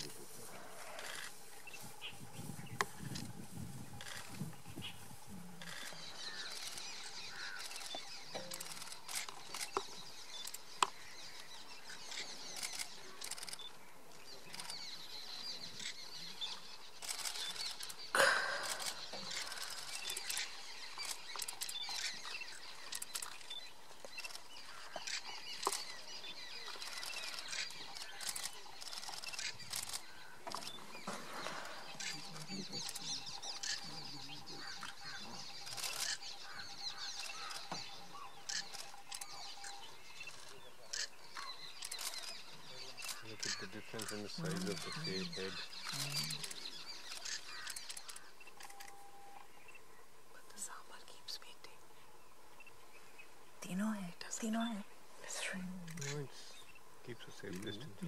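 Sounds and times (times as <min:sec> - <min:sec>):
faint outdoor ambience: 0:00.0 - 0:58.0
wild birds chirping: 0:00.0 - 0:58.0.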